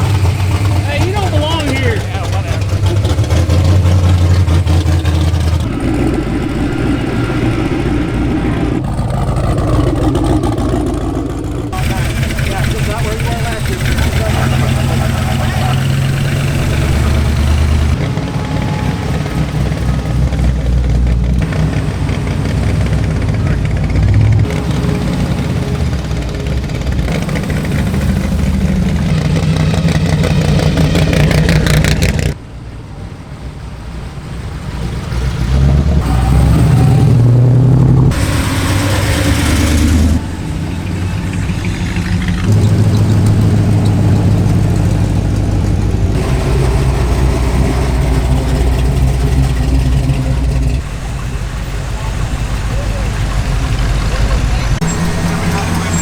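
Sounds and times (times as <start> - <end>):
car engines idling and revving: 0.0 - 56.0.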